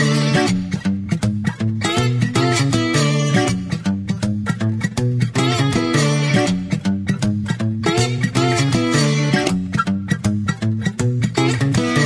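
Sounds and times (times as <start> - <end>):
music with steady beat: 0.0 - 12.0
plucked guitar: 0.0 - 12.0.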